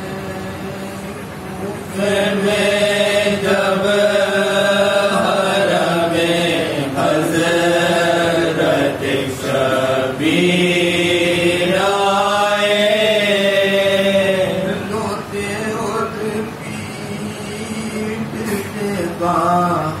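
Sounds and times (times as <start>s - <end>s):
men reciting an elegy together: 0.0s - 20.0s.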